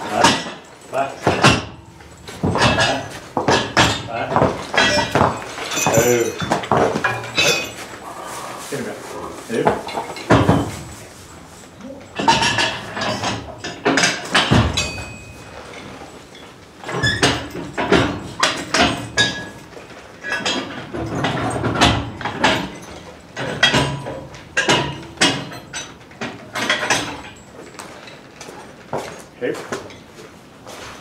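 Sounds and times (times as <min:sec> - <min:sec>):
harness chains clanking and jingling: 0:00.0 - 0:30.3
hooves on barn floor: 0:00.0 - 0:31.0.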